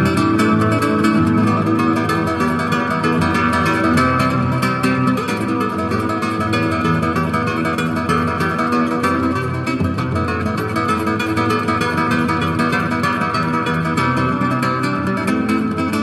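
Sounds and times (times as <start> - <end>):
plucked acoustic guitar: 0.0 - 16.0.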